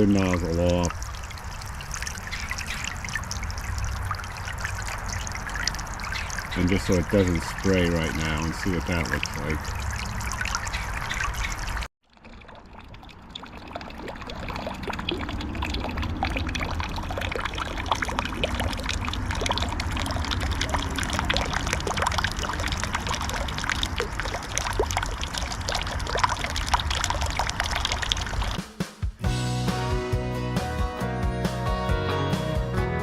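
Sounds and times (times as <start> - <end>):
fountain water splashing into basin: 0.0 - 28.6.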